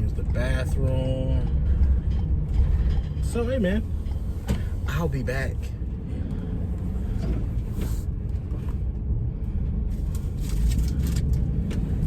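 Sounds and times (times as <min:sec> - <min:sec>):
van engine rumbling: 0:00.0 - 0:12.0.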